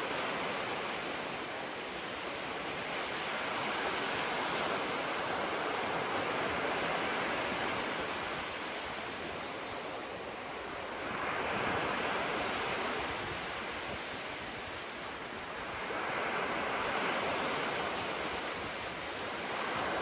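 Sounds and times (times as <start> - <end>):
waves washing onto shore: 0.0 - 20.0.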